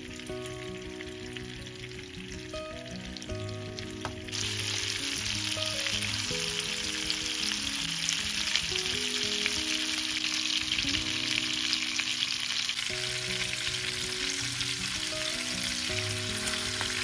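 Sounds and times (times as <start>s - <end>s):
chicken sizzling in hot oil: 0.0s - 17.0s
soft background music: 0.0s - 17.0s.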